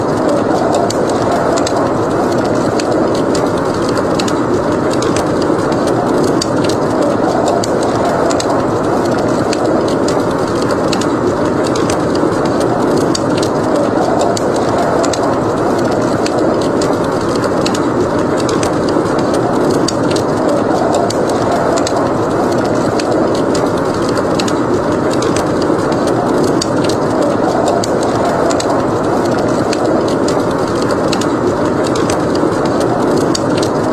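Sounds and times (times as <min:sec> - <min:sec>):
blizzard wind: 0:00.0 - 0:33.9
wood fire crackling: 0:00.0 - 0:33.9.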